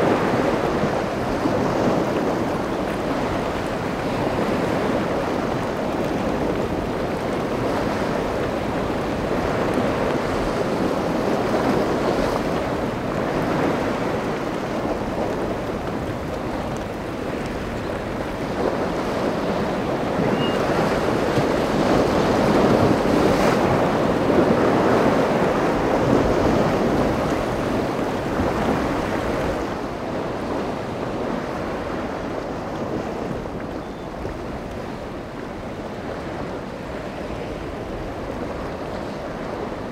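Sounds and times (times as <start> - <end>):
waves washing: 0.0 - 39.9
wind buffeting microphone: 0.0 - 39.9.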